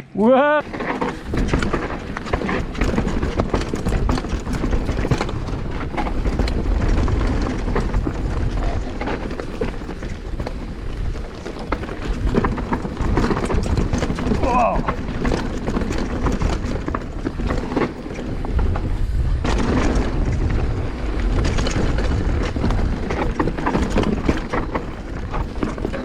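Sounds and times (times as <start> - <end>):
bike rattling: 0.2 - 26.0
bike tyres on dirt and roots: 0.2 - 26.0.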